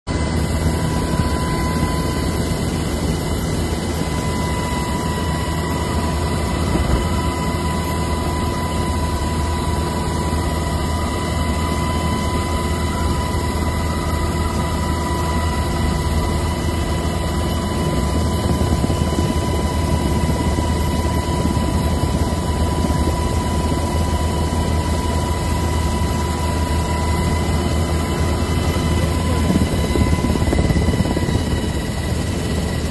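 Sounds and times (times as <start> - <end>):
helicopter engine and rotor drone: 0.1 - 32.9.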